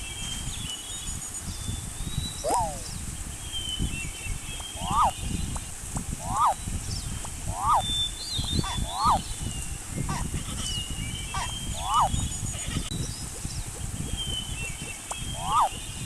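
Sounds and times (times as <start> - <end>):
small birds chirping: 0.0 - 16.0
low rumbling background: 0.9 - 16.0.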